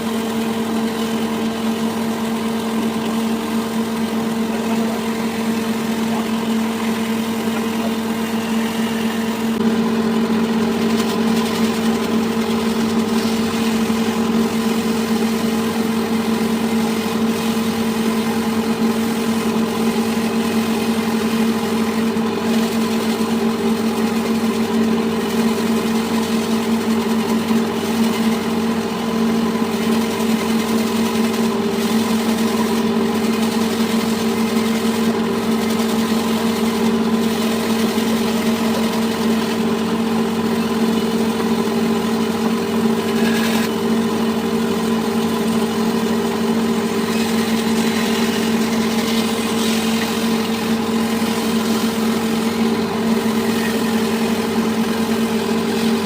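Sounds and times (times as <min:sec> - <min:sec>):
power tool motor humming: 0:00.0 - 0:56.0.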